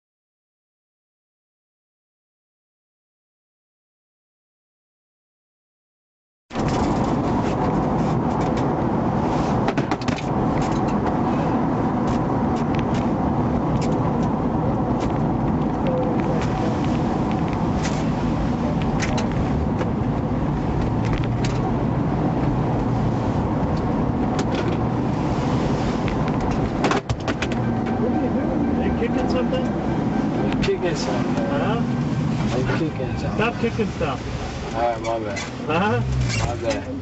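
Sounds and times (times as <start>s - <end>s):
car road and engine rumble: 6.5s - 37.0s.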